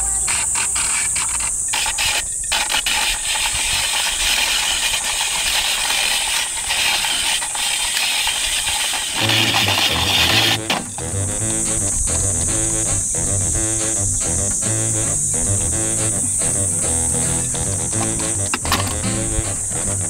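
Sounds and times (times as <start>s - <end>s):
blade scraping ice: 0.0s - 12.3s, 15.9s - 20.0s.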